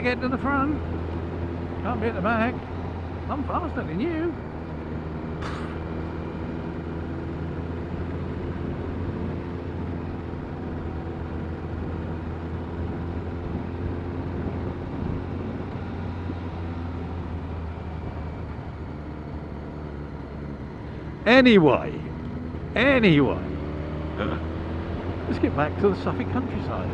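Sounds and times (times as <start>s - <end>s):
motorcycle engine running: 0.0s - 26.9s
road noise: 0.0s - 26.9s.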